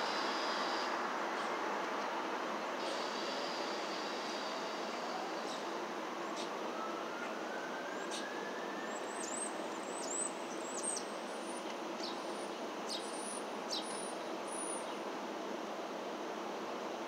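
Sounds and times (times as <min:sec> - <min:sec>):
city traffic hum: 0:00.0 - 0:17.0.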